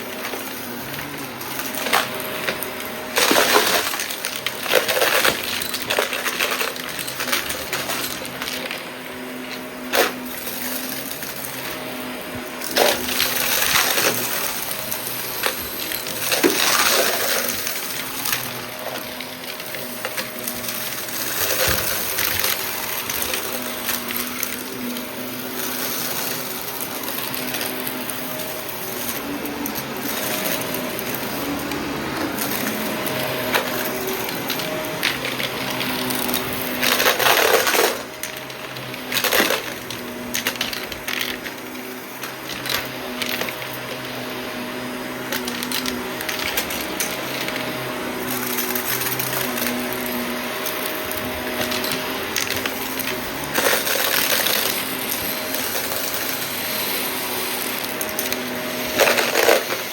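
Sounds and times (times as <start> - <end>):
debris rattling through vacuum: 0.0 - 59.9
vacuum cleaner running: 0.0 - 59.9.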